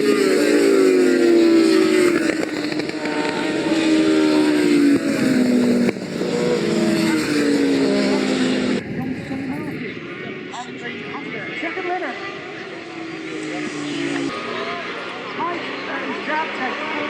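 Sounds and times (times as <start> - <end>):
racing motorcycles passing at speed: 0.0 - 17.0.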